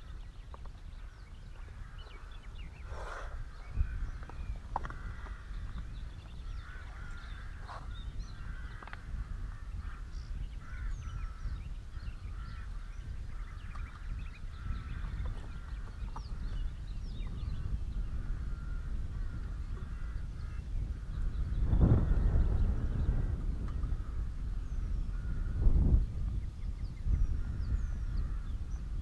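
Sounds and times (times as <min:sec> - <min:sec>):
birds chirping: 0:00.0 - 0:29.0
wind rumble on microphone: 0:00.0 - 0:29.0.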